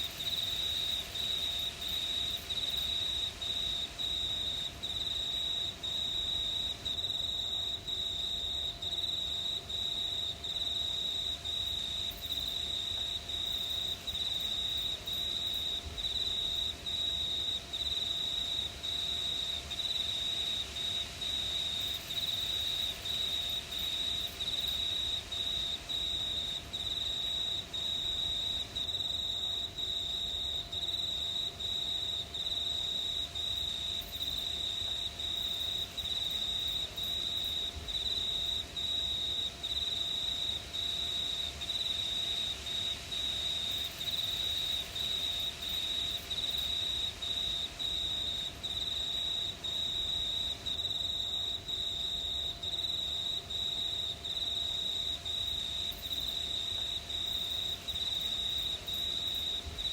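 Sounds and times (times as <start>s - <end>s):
crickets chirping: 0.0s - 59.9s
high steady cricket trill: 0.0s - 59.9s.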